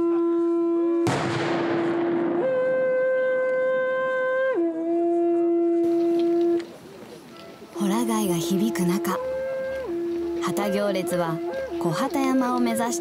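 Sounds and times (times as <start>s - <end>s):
wooden horns blown in long notes: 0.0s - 13.0s.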